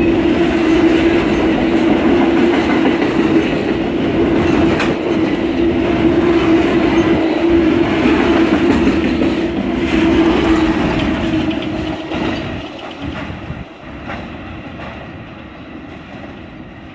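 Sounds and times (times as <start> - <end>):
train cars rolling past: 0.0 - 16.9.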